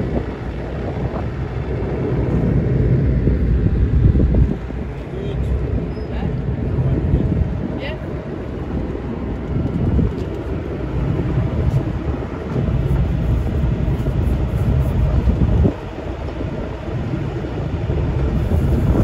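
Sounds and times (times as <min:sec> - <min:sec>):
boat engine rumble: 0:00.0 - 0:19.0
wind buffeting microphone: 0:00.0 - 0:19.0.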